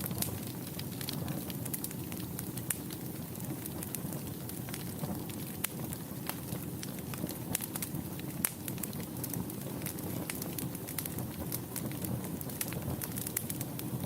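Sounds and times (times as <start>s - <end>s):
burning logs crackling and popping: 0.0s - 14.0s
low rumble of flames: 0.0s - 14.0s.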